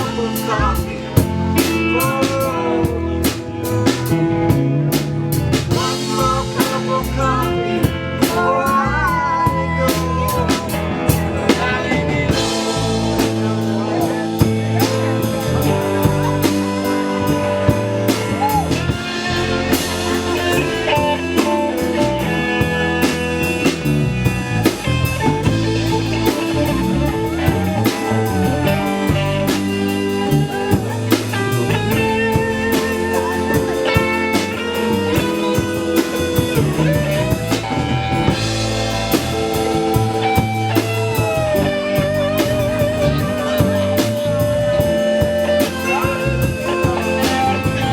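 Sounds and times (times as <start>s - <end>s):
bass guitar: 0.0s - 47.9s
drum kit beat: 0.0s - 47.9s
lead guitar bent notes: 0.0s - 47.9s.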